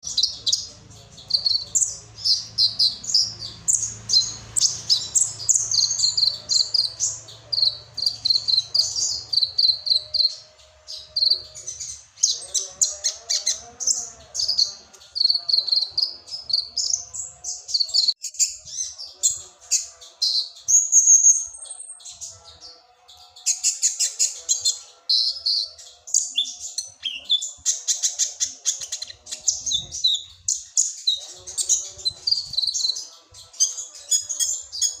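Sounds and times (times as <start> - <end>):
sunbird twittering song: 0.0 - 35.0.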